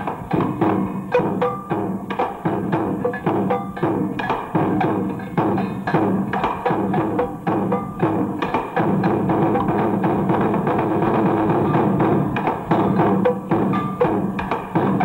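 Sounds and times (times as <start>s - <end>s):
instrumental music with percussion: 0.0s - 15.0s.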